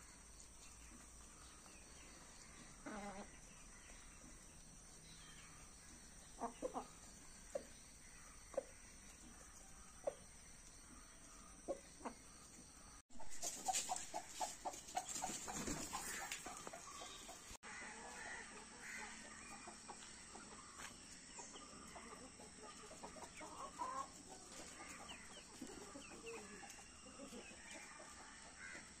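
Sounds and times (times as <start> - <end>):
chickens clucking: 0.2 - 4.8, 5.7 - 29.0.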